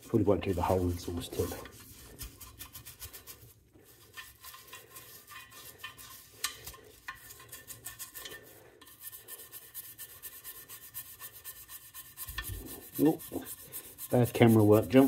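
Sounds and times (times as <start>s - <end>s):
brush scrubbing metal exhaust tip: 0.0s - 15.0s.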